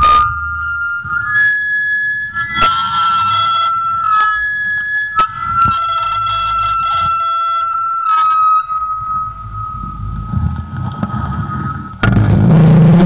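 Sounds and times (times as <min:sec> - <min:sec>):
metallic ringing springs: 0:00.0 - 0:12.2.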